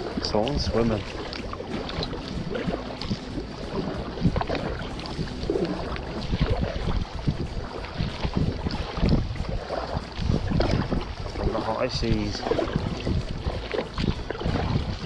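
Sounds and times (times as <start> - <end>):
kayak paddle strokes in water: 0.0 - 15.0
water splashing: 0.0 - 15.0
water washing along plastic hull: 0.0 - 15.0
wind buffeting microphone: 0.0 - 15.0.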